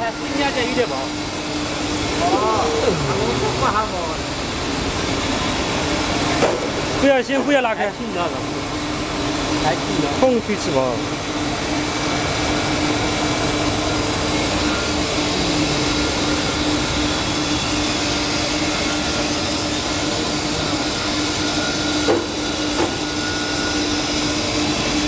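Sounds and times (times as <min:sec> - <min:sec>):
foam splitting machine humming: 0:00.1 - 0:25.0.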